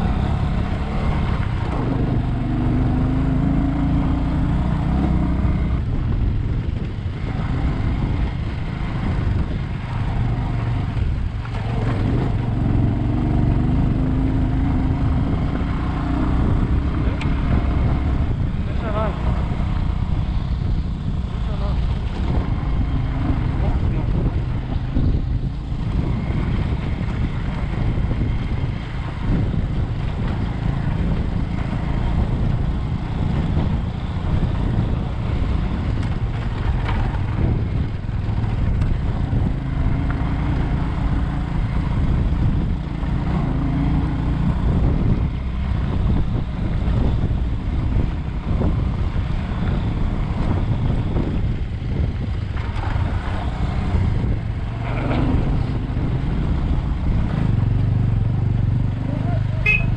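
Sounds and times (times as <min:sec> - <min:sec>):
motorcycle engine rumble: 0:00.0 - 0:59.9
wind rush on microphone: 0:00.0 - 0:59.9.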